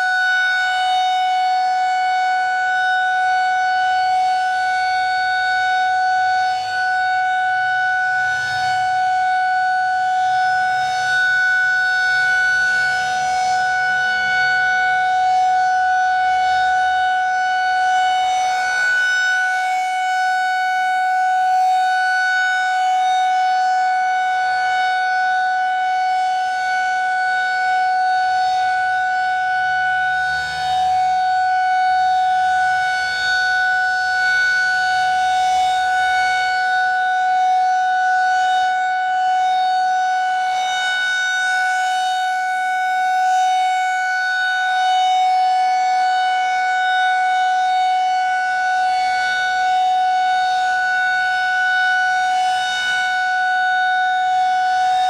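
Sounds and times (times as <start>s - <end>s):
rotating warning siren: 0.0s - 55.0s.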